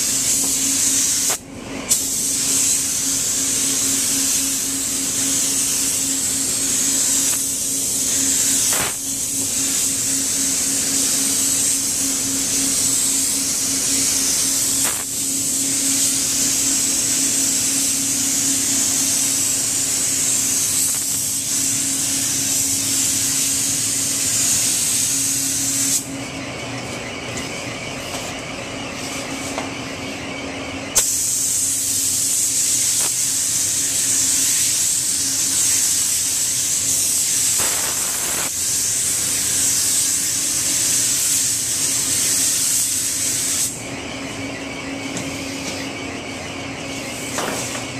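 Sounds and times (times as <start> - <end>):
spray gun hissing: 0.0 - 26.1, 30.9 - 43.8.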